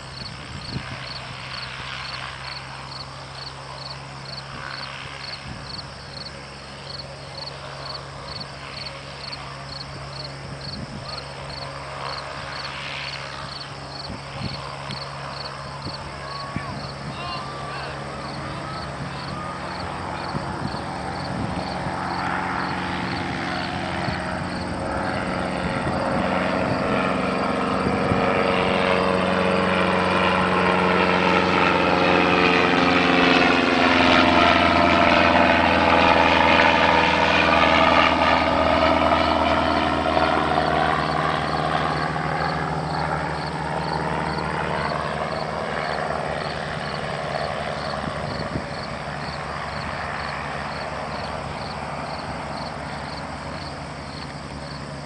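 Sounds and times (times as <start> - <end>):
propeller aircraft flying overhead: 0.0 - 55.0.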